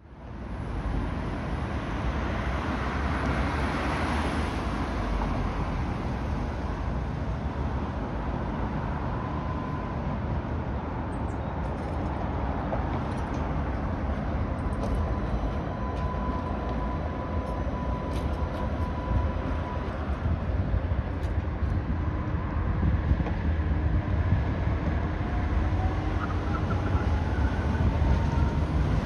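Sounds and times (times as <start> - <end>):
road noise: 0.0 - 29.0
tram rumbling on tracks: 0.2 - 29.0.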